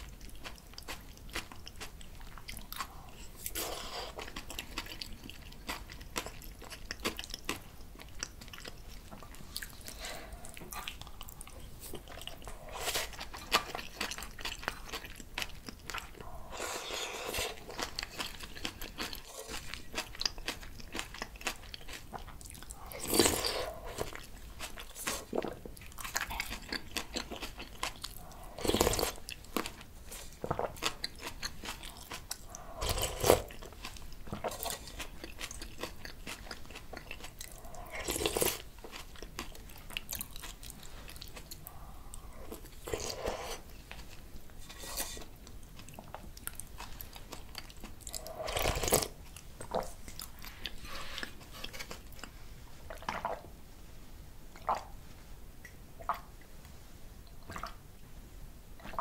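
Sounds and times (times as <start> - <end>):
person chewing food: 0.0 - 53.4, 57.2 - 57.8.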